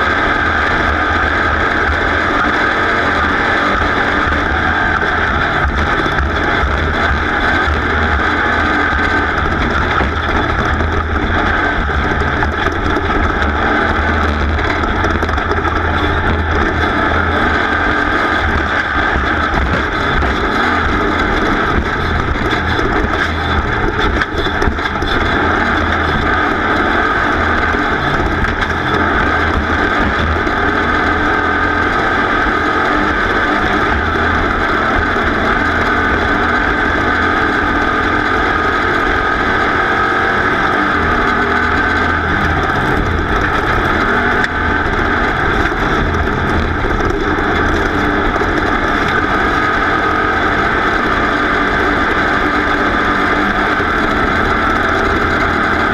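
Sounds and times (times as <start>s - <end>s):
racing engine running loudly: 0.0s - 55.9s
wind noise: 0.0s - 55.9s.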